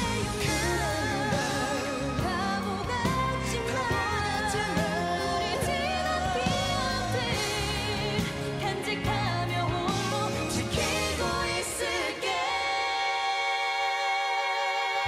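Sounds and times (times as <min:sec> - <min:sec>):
instrumental backing music: 0:00.0 - 0:12.3
woman singing pop into microphone: 0:00.0 - 0:15.0.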